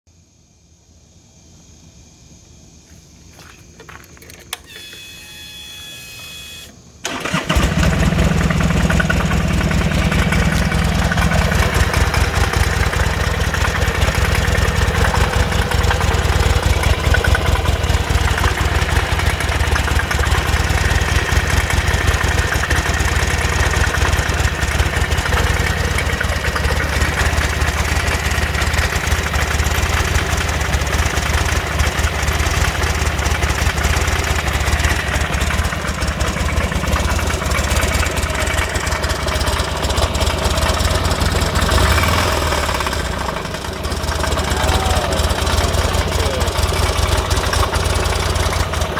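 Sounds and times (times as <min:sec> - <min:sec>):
starter whine: 0:02.8 - 0:48.9
motorcycle engine idling: 0:03.3 - 0:48.9
engine knocking: 0:07.1 - 0:48.9.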